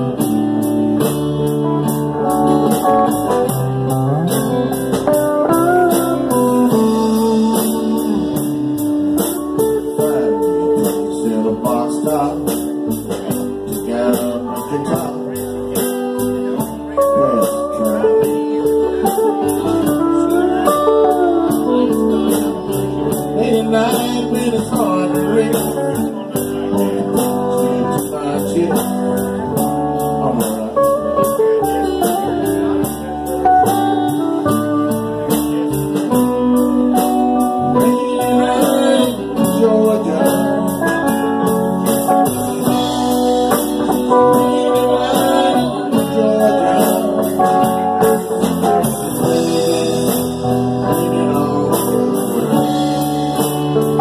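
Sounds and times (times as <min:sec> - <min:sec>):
electric guitar: 0:00.0 - 0:54.0
person singing: 0:05.1 - 0:54.0.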